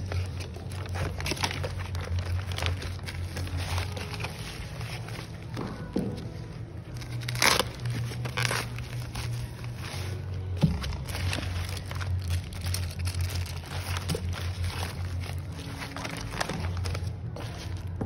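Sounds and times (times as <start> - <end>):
packaging crackles and snaps: 0.0 - 18.0
packaging crinkling and rustling: 0.0 - 18.0.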